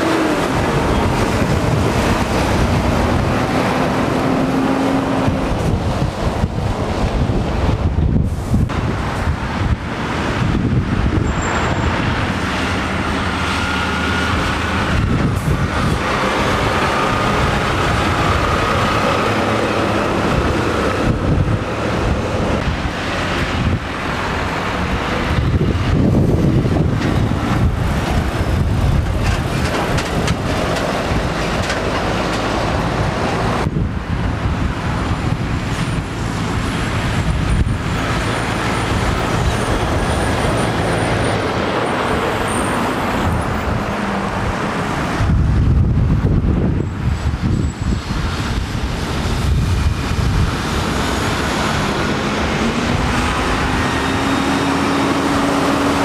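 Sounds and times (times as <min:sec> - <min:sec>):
car traffic: 0:00.0 - 0:56.0
heavy trucks passing: 0:00.0 - 0:56.0.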